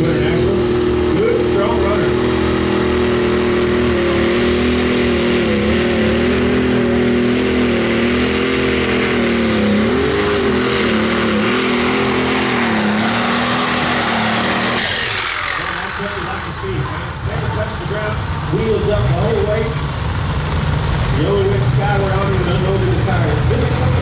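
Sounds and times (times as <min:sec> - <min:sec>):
tractor engine running hard: 0:00.0 - 0:24.0.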